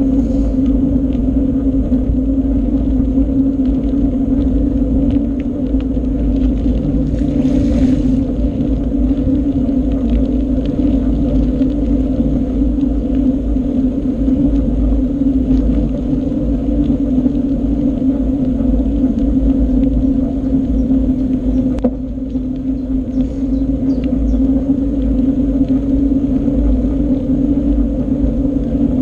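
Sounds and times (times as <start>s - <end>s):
low hum: 0.0s - 29.0s
road noise: 0.0s - 29.0s
wind noise: 0.0s - 29.0s.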